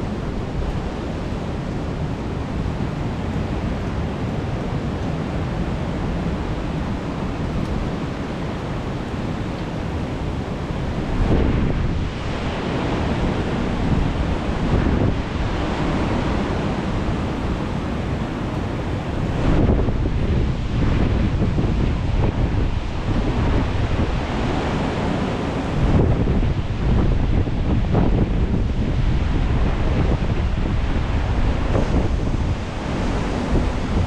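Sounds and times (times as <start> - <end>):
sea surf: 0.0 - 34.0
wind buffeting microphone: 0.0 - 34.0.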